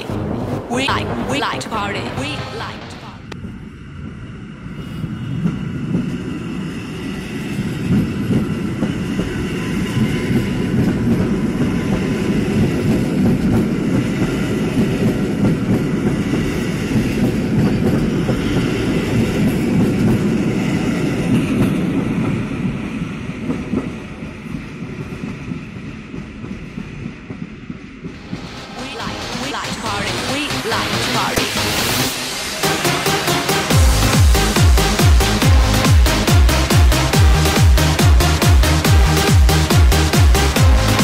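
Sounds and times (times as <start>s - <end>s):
train wheels rolling on rails: 2.2s - 41.0s.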